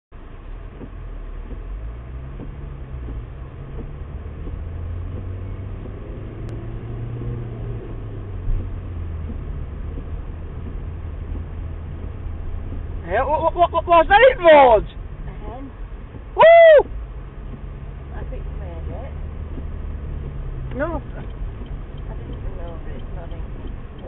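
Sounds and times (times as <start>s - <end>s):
car engine hum: 0.1s - 24.0s
tyre noise on wet road: 0.1s - 24.0s.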